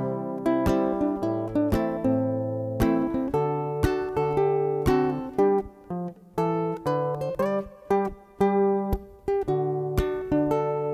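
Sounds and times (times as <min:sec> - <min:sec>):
plucked acoustic guitar: 0:00.0 - 0:10.9.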